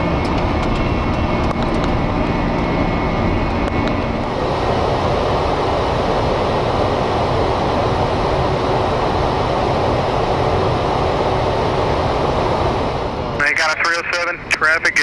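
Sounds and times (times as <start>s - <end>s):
aircraft cockpit airflow and engine: 0.0s - 15.0s.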